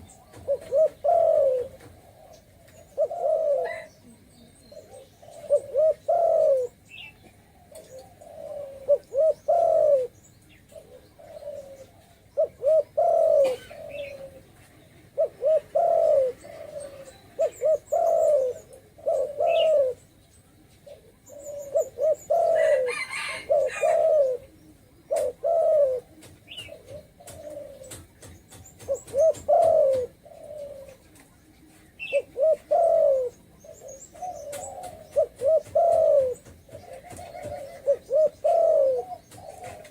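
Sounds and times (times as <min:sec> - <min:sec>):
dove cooing: 0:00.0 - 0:20.0, 0:20.6 - 0:39.9.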